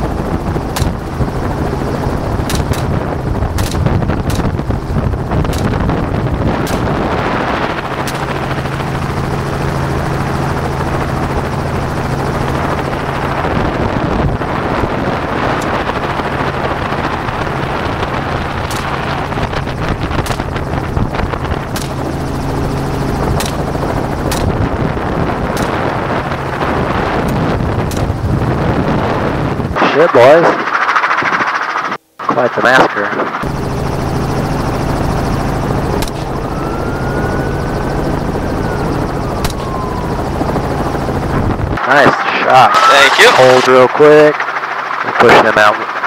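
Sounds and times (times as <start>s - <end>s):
helicopter rotor and engine drone: 0.0s - 46.0s
wind rush: 0.0s - 46.0s.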